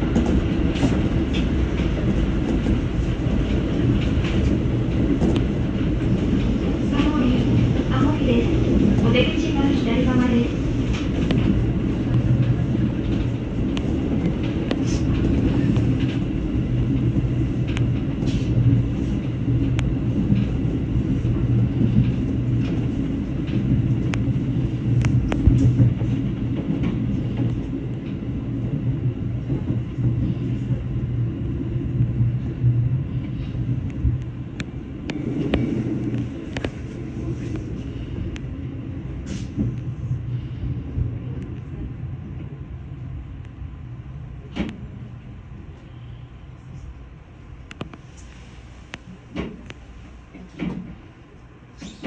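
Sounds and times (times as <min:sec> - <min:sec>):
electric train rumbling on rails: 0:00.0 - 0:52.0.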